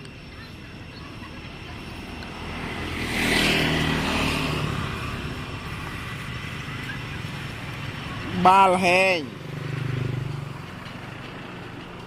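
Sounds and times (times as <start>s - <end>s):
vehicle passing by: 1.7s - 12.0s.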